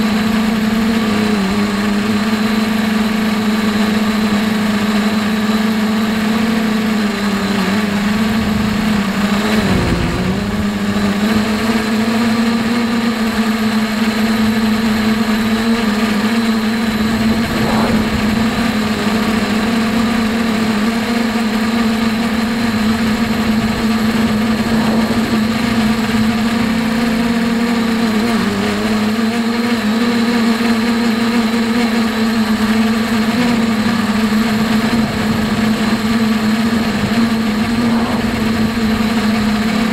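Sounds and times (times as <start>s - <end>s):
drone motors and propellers humming: 0.0s - 39.9s.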